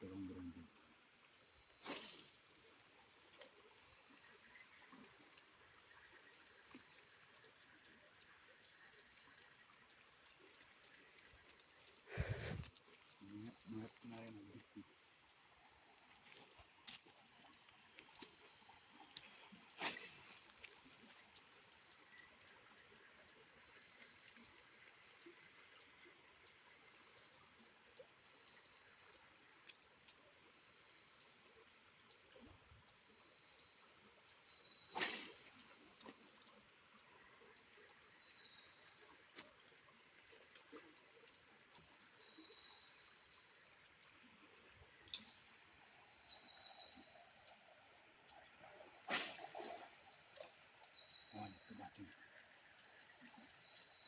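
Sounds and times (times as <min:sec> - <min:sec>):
high-pitched insect chorus: 0:00.0 - 0:54.0
pulsing insect call: 0:00.0 - 0:54.0.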